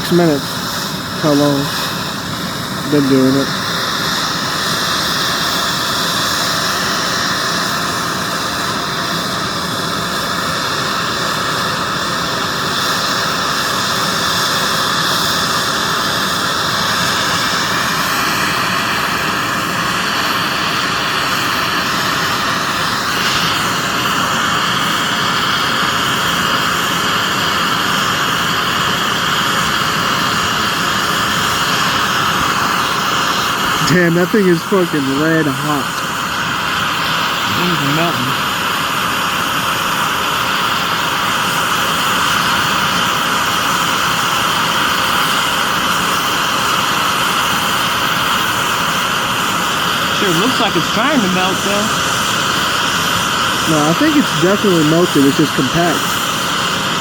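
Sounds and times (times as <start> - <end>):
gas torch flame roaring: 0.0 - 57.0.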